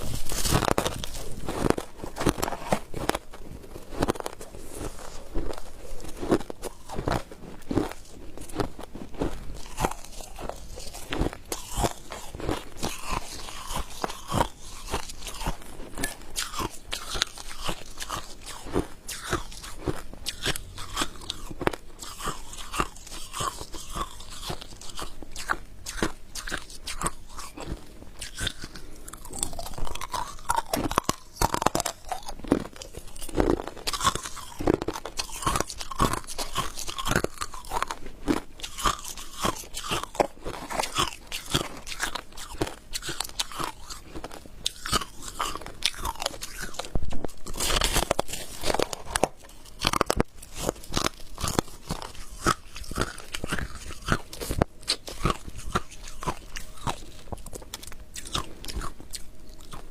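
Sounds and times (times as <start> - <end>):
chewing and crunching ice: 0.0 - 59.9.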